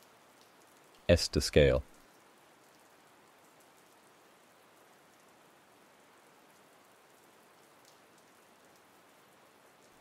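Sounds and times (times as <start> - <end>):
rain hiss with drop ticks: 0.0 - 10.0.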